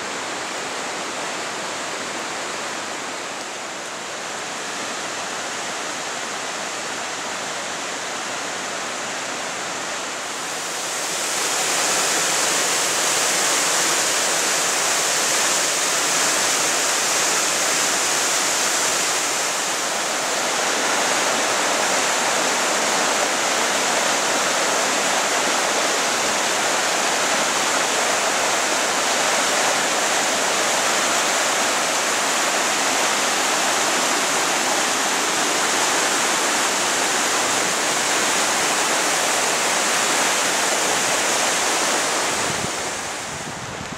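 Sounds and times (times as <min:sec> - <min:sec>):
flood water rushing: 0:00.0 - 0:43.9.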